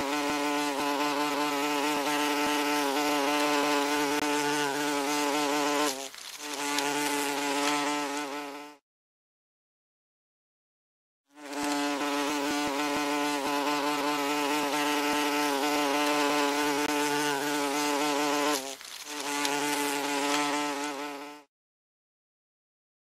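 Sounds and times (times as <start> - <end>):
wasps buzzing: 0.0 - 8.8, 11.4 - 21.5.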